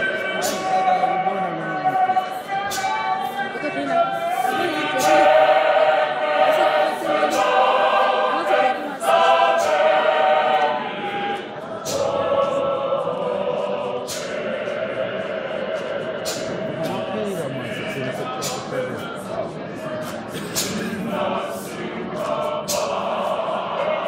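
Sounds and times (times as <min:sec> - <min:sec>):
men's choir singing: 0:00.0 - 0:24.0.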